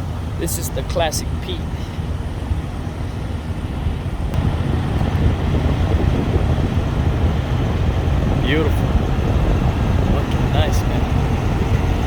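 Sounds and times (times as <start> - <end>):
trucks idling: 0.0 - 12.0
wind buffeting microphone: 0.0 - 12.0.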